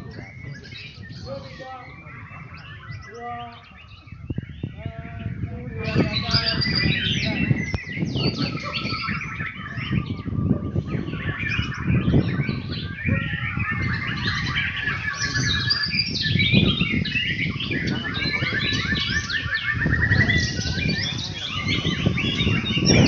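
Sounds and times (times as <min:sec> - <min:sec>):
songbirds chorus: 0:00.0 - 0:23.0.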